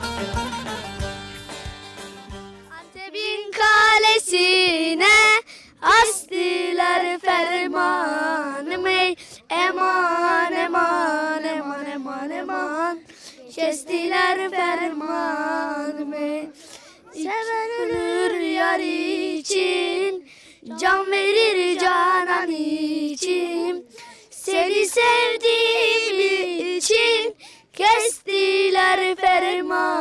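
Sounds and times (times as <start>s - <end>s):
person singing unaccompanied: 2.7s - 30.0s.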